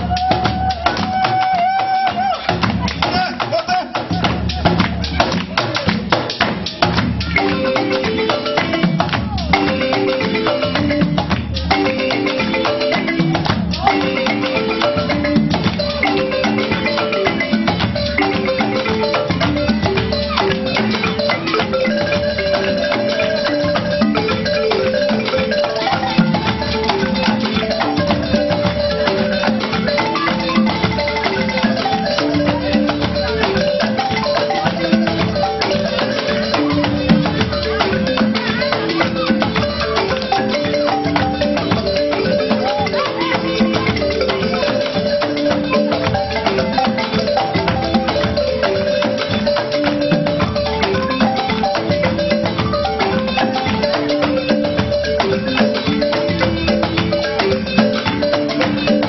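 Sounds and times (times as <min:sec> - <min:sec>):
percussion keeping time: 0:00.0 - 0:59.0
wooden xylophone melody: 0:00.0 - 0:59.0.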